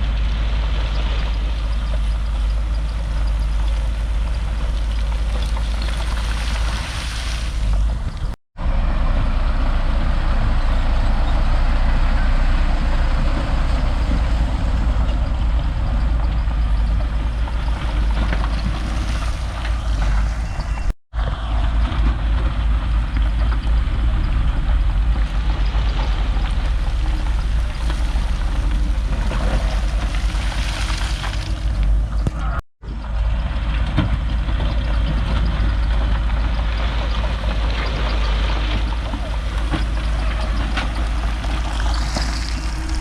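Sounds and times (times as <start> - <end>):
bulldozer diesel engine rumbling: 0.0 - 43.0.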